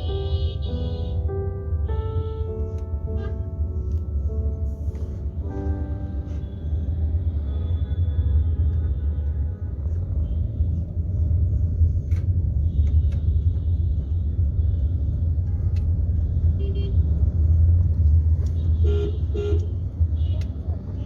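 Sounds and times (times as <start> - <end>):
heavy rumble of road traffic: 0.0 - 21.0.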